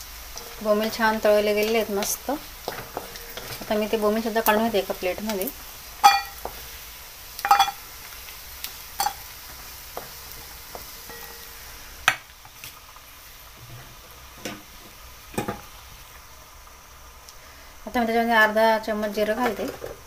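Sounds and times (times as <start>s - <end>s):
hot oil sizzling: 0.0s - 20.0s.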